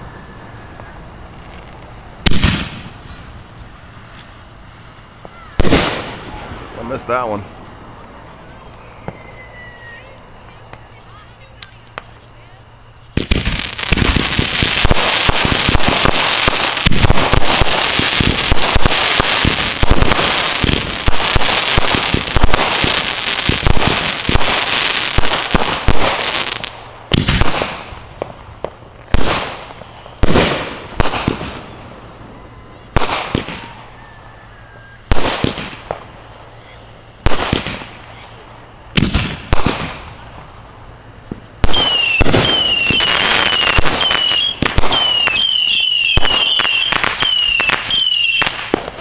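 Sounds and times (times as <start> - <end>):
fireworks bangs: 0.0 - 49.0.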